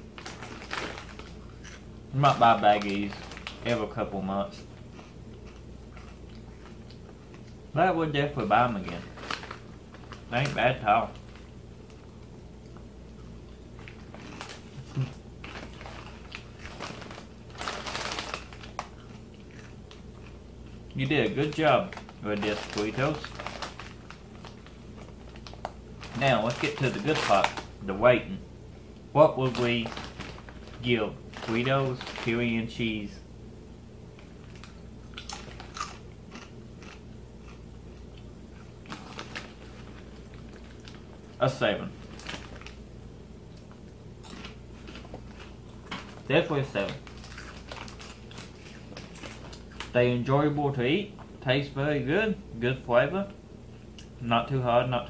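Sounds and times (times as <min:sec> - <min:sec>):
foil chip bag rustling: 0:00.0 - 0:05.0, 0:05.9 - 0:12.6, 0:13.3 - 0:28.2, 0:29.2 - 0:33.2, 0:34.2 - 0:37.0, 0:38.6 - 0:42.9, 0:43.7 - 0:50.3
chips being crunched and chewed: 0:00.0 - 0:07.6, 0:08.2 - 0:27.8, 0:29.3 - 0:32.9, 0:34.2 - 0:42.8, 0:43.5 - 0:50.0.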